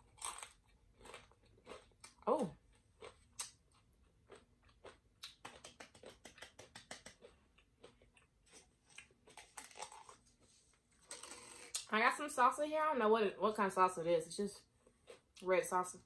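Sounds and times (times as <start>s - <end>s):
chewing crunchy chips: 0.0s - 11.8s, 14.6s - 16.0s.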